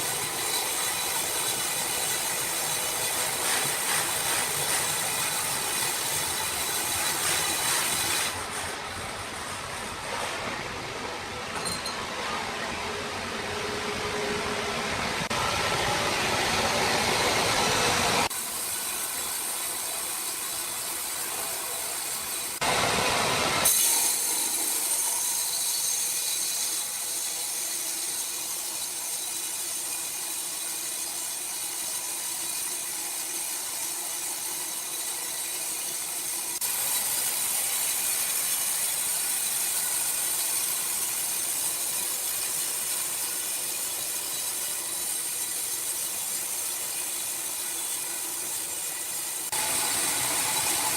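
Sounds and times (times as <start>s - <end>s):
saw cutting through logs: 0.0s - 9.3s, 18.0s - 50.9s.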